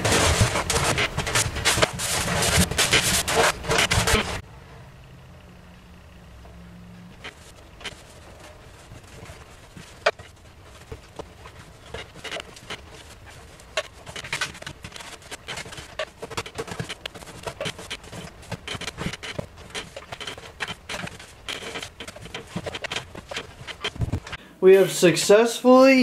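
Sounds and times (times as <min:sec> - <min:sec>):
paintbrush clicks and scrapes: 0:00.0 - 0:04.4, 0:07.2 - 0:24.4.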